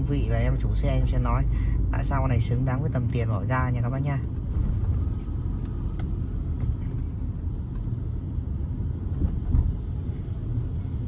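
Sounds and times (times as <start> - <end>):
road and engine rumble in car cabin: 0.0 - 11.0.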